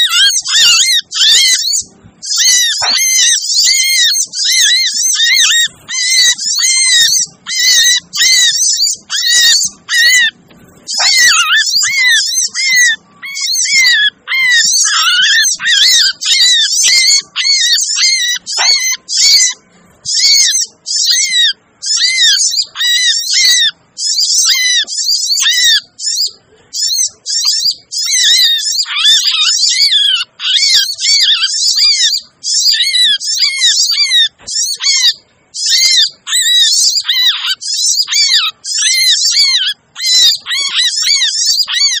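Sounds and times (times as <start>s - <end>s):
sunbird rapid high chirps: 0.0s - 42.0s.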